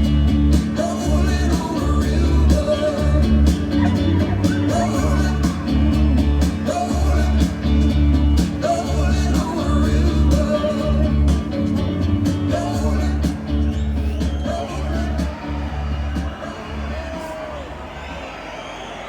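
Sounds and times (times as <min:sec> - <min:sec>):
loud rock music with singing: 0:00.0 - 0:18.8.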